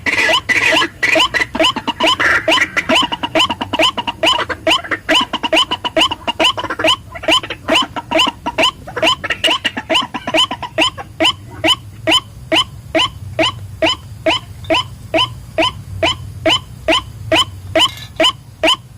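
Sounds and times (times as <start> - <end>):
waterhen calling: 0.0 - 18.9.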